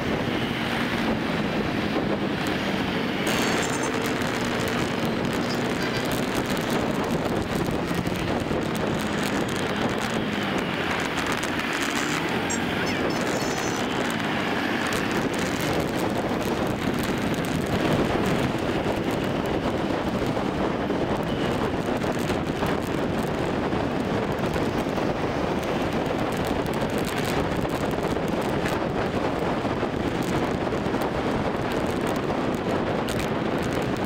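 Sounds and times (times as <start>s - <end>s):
scooter and car engines: 0.0s - 34.0s
wind buffeting microphone: 0.0s - 34.0s.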